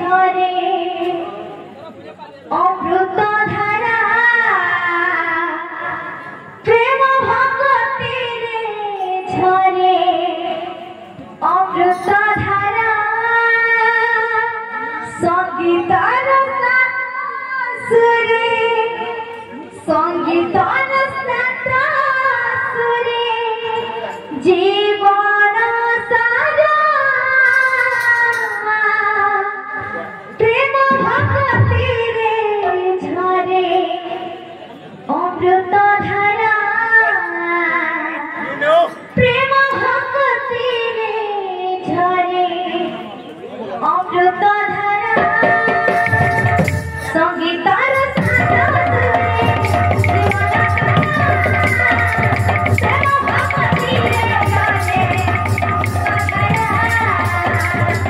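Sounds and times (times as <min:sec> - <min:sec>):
woman singing through a microphone: 0:00.0 - 0:01.8, 0:02.4 - 0:58.0.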